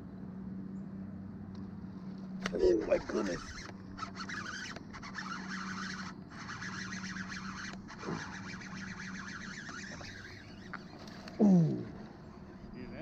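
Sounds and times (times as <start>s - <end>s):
electric motor humming: 2.3s - 12.7s.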